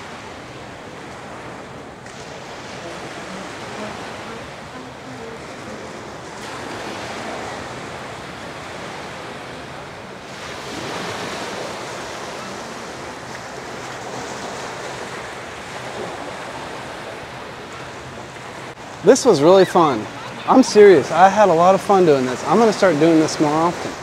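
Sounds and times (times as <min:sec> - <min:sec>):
waves washing onto sand: 0:00.0 - 0:24.0.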